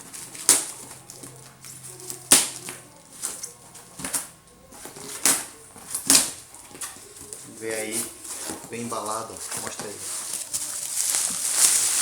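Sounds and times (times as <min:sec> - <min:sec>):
cardboard box crackling and rustling: 0:00.0 - 0:12.0.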